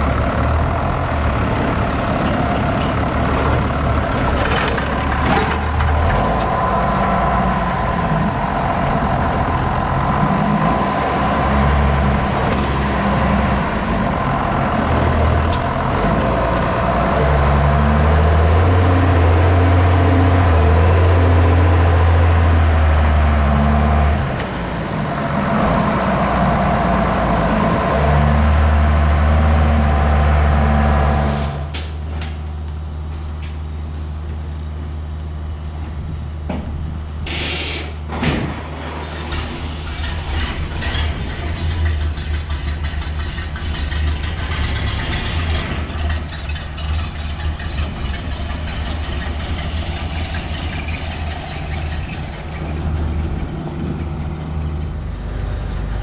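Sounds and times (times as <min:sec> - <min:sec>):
heavy vehicle engine: 0:00.0 - 0:56.0.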